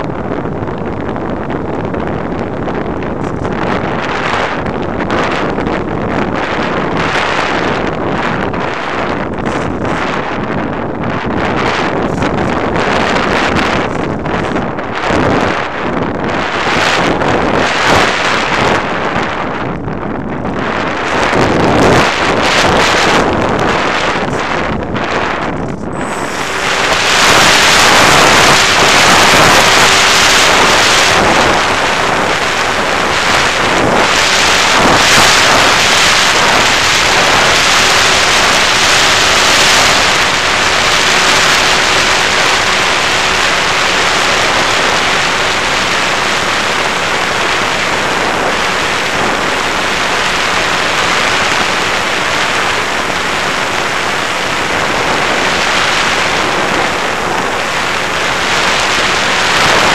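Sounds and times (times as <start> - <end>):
faint electric motor hum: 0.0 - 59.9
wind rushing over microphone: 0.0 - 59.9.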